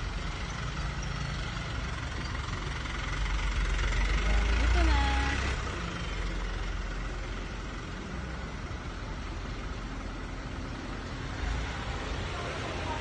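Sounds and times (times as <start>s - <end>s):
road and street noise: 0.0s - 13.0s
truck engine passing: 0.0s - 13.0s.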